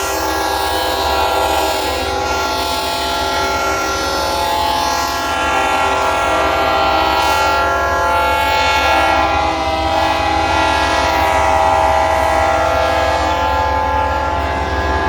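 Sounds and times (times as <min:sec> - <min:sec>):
locomotive air horns: 0:00.0 - 0:15.0.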